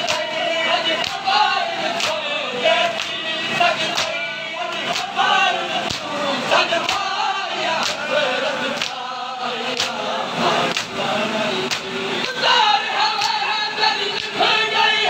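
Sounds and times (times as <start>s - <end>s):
men singing a refrain: 0.0s - 15.0s.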